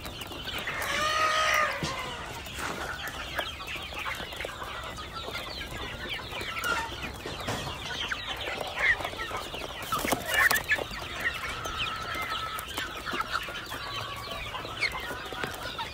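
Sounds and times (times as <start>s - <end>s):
chickens clucking and calling: 0.0s - 15.9s.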